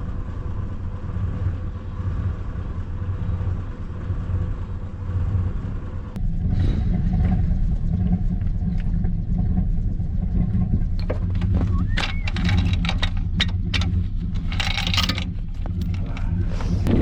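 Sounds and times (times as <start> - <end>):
skid steer engine rumbling: 0.0 - 17.0.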